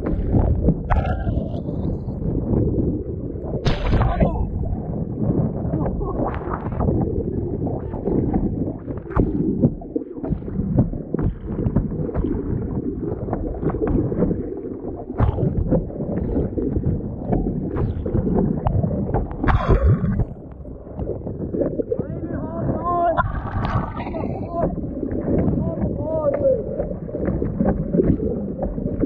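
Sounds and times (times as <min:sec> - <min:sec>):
wind buffeting microphone: 0:00.0 - 0:29.0
water splashing against paddleboard: 0:05.7 - 0:29.0.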